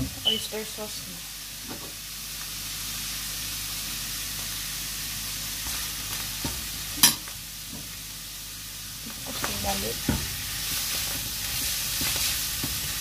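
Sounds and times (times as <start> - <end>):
vegetables sizzling in a frying pan: 0.0 - 13.0.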